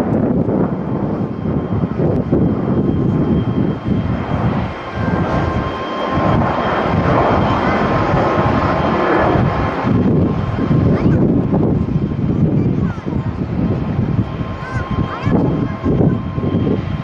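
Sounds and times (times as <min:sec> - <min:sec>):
jet engine rush and whine: 0:00.0 - 0:17.0
wind buffeting microphone: 0:00.0 - 0:17.0.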